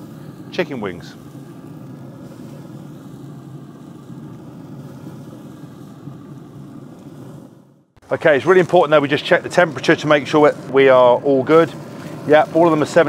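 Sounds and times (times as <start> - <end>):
pellet grill fan humming: 0.0 - 13.0.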